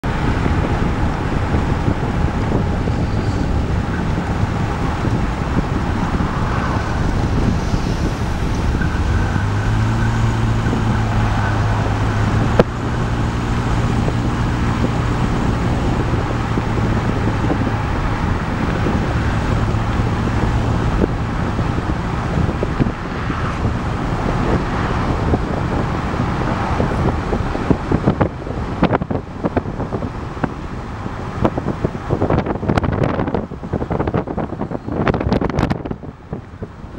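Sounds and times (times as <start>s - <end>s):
car road and engine noise: 0.0s - 36.9s
wind buffeting microphone: 0.0s - 36.9s.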